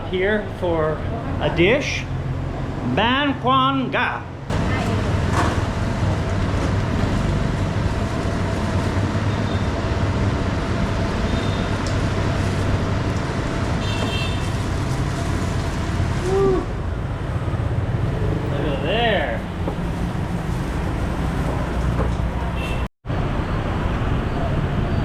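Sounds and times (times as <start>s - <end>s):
road noise: 0.0s - 25.0s
traffic engine hum: 0.0s - 25.0s.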